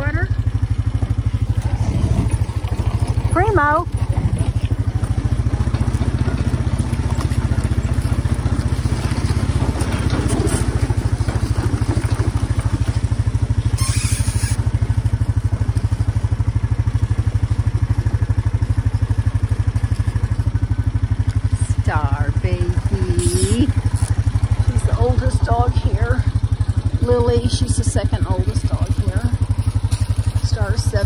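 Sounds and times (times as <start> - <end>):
atv engine running: 0.0 - 31.0.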